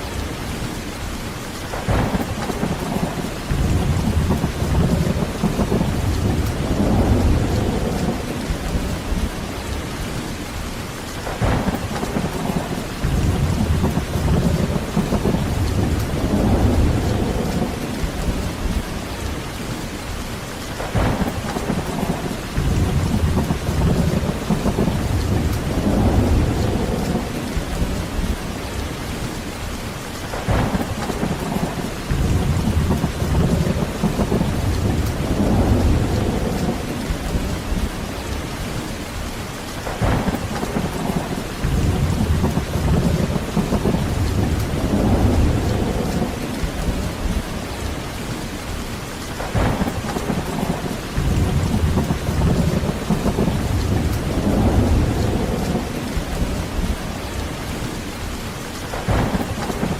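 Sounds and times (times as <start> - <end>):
heavy rain: 0.0 - 59.9
rolling thunder: 1.7 - 10.3, 11.2 - 19.8, 20.8 - 29.7, 30.3 - 59.9
sharp thunder crackle: 1.7 - 10.3, 11.2 - 19.4, 20.8 - 29.3, 30.3 - 39.0, 39.8 - 48.5, 49.3 - 59.9.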